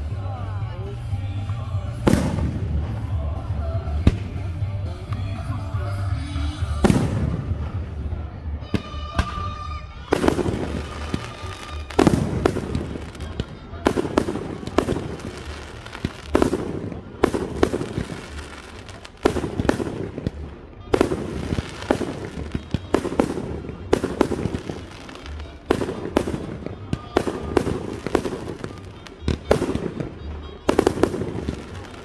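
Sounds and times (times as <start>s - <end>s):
crackling firework stars: 0.0s - 32.0s.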